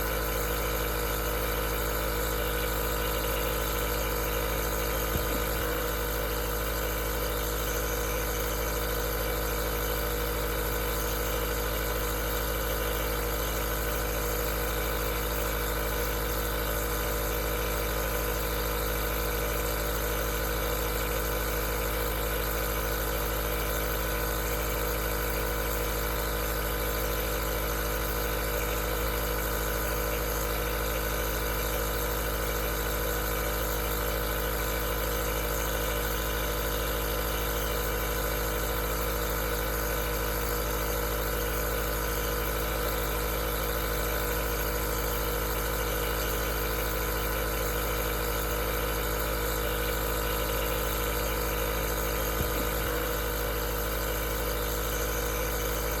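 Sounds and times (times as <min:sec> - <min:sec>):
nebulizer motor hum with hiss: 0:00.0 - 0:56.0.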